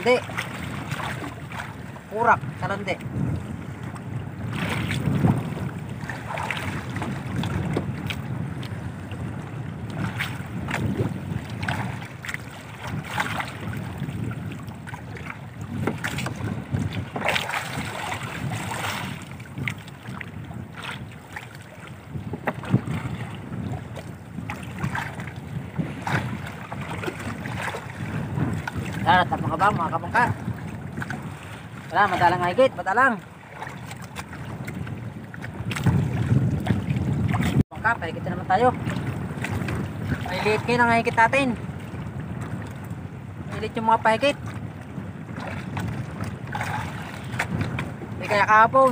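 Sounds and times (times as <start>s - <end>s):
water slapping against boat hull: 0.0s - 48.9s
wind buffeting microphone: 0.0s - 48.9s.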